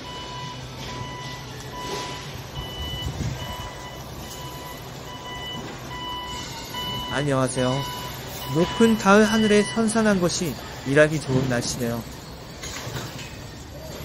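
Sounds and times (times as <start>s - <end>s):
machinery warning beeps: 0.0s - 14.0s.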